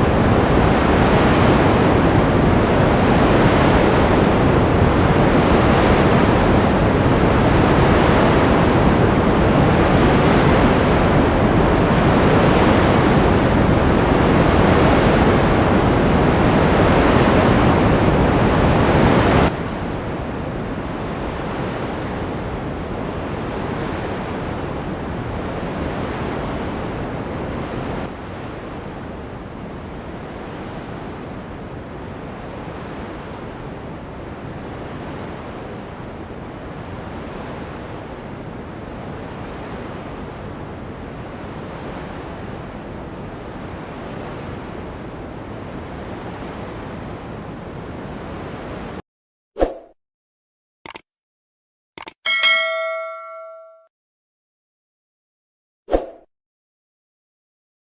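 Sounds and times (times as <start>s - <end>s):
ocean waves breaking: 0.0s - 49.0s.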